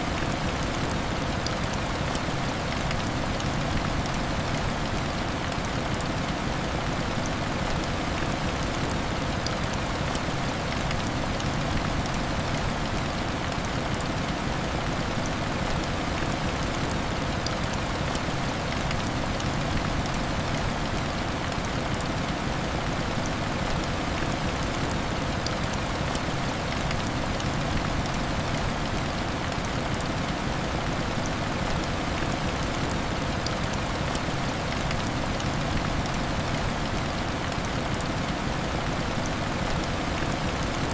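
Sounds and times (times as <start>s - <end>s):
faint ticks of raindrops: 0.0s - 40.9s.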